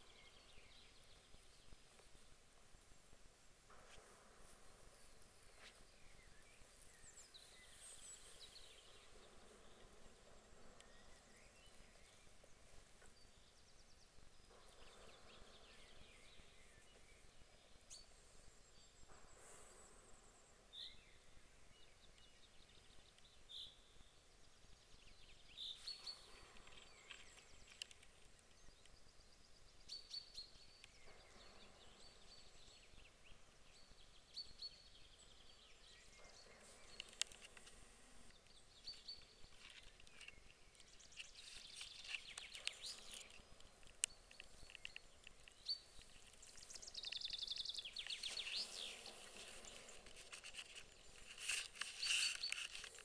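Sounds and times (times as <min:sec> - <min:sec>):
small birds singing: 0:00.0 - 0:53.0.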